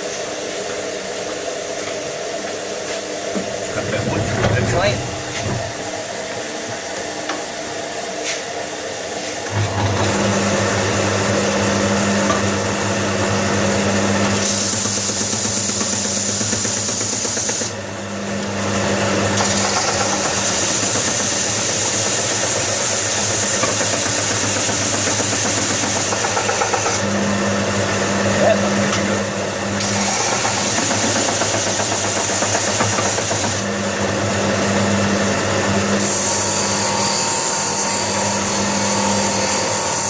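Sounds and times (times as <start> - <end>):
louder machine hum and hiss: 0.0 - 40.0
workshop machinery humming: 0.0 - 40.0.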